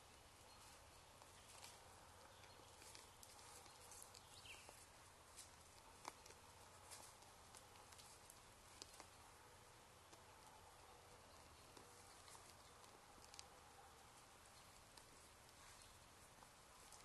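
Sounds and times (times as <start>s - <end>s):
deer grazing soft clicks: 0.0s - 17.0s
faint steady hiss: 0.0s - 17.0s.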